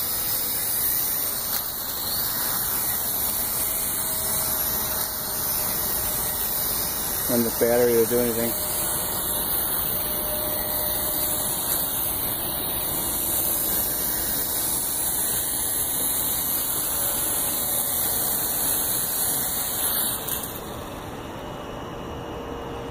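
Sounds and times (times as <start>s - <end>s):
quadcopter propellers whirring: 0.0s - 22.9s.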